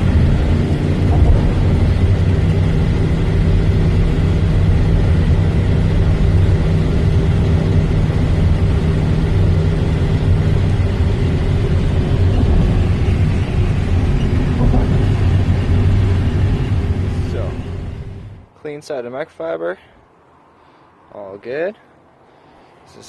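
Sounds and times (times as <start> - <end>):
van engine drone: 0.0 - 18.6
road noise: 0.0 - 23.0.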